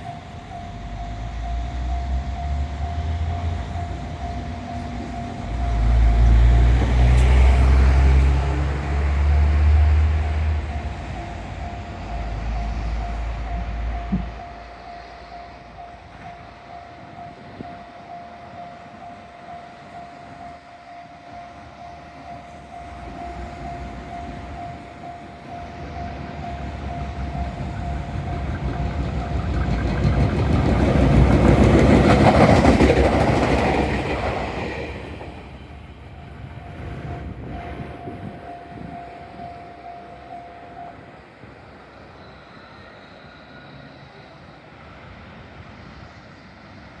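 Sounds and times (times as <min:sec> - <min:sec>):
level crossing warning bell: 0:00.0 - 0:33.6, 0:36.1 - 0:42.5
electric train passing: 0:00.0 - 0:47.0.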